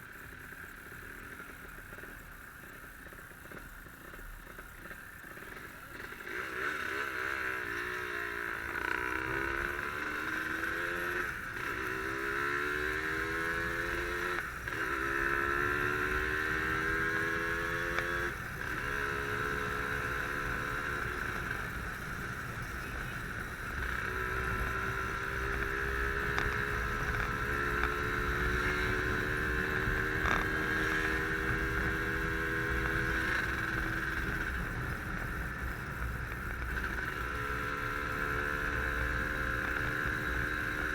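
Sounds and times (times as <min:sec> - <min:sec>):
motorcycle engine accelerating through gears: 0:00.0 - 0:40.9.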